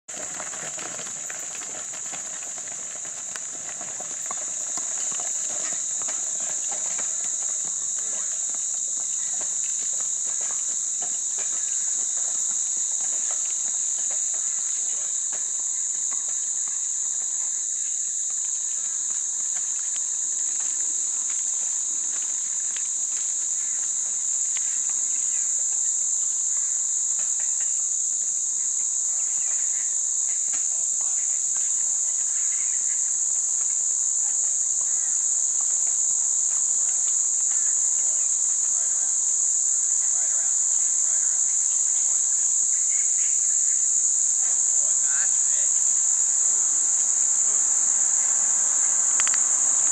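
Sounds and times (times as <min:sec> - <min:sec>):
horse hooves clip-clopping: 0:00.1 - 0:49.9
insect chorus: 0:00.1 - 0:49.9.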